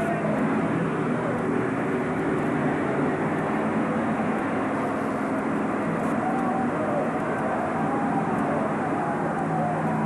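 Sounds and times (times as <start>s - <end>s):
tractor diesel engine droning: 0.0s - 10.0s.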